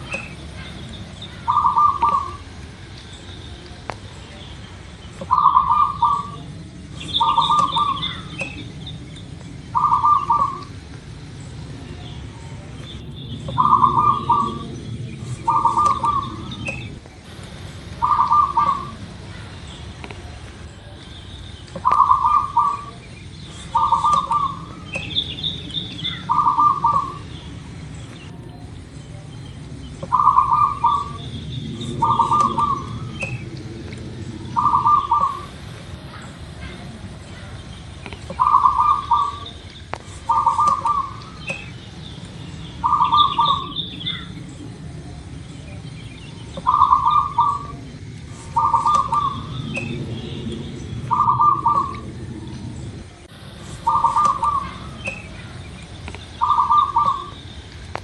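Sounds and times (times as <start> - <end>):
dove cooing: 0.0 - 4.0, 5.2 - 21.1, 21.7 - 42.0, 42.6 - 57.4
small birds chirping: 0.0 - 58.0
steady low hum: 0.0 - 58.0.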